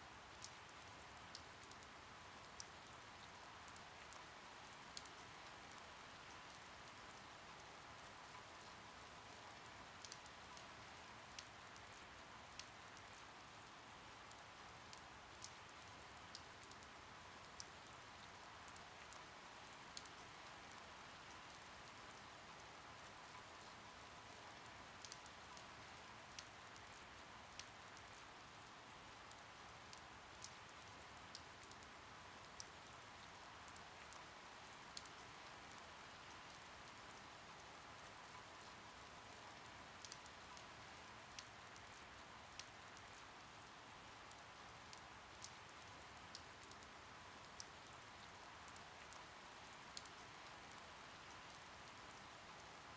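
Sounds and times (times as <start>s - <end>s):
faint steady rain: 0.0s - 52.9s.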